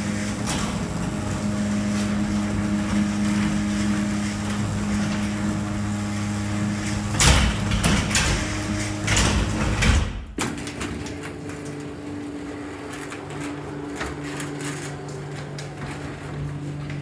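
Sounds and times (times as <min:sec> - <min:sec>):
door opener motor hum: 0:00.0 - 0:17.0
garage door clattering and rattling: 0:00.0 - 0:17.0.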